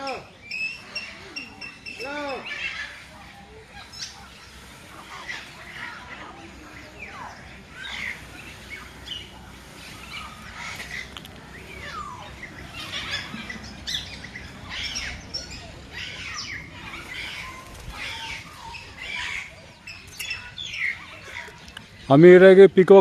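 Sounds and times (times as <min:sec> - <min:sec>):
birds calling and chirping: 0:00.0 - 0:23.0.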